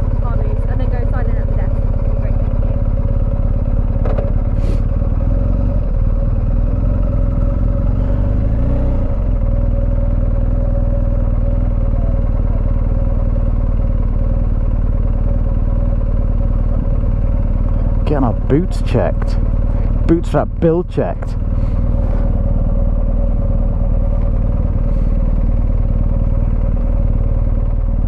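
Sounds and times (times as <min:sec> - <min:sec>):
motorcycle engine running at low revs: 0:00.0 - 0:28.0.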